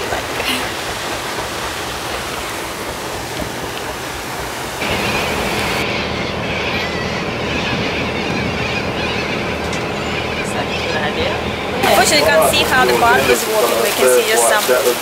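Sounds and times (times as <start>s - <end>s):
low mechanical hum: 0.0s - 13.3s
wind and churning water: 0.0s - 15.0s.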